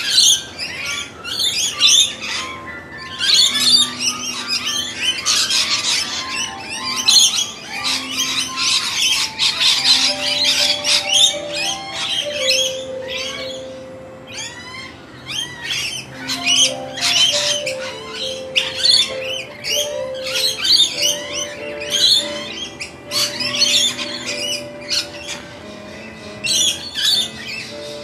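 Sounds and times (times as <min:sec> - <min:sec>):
birds squawking and chirping: 0:00.0 - 0:28.0
slow background music: 0:00.0 - 0:28.0.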